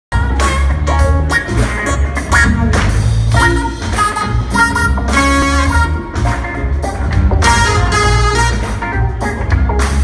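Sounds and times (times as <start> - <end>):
jazz-funk band playing live: 0.1 - 10.0.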